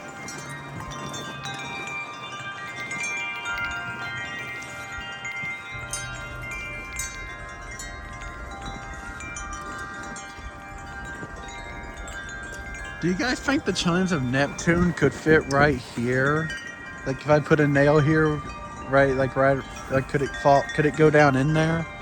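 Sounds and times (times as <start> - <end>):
gusty wind: 0.0 - 22.0
metal wind chimes ringing: 0.0 - 22.0.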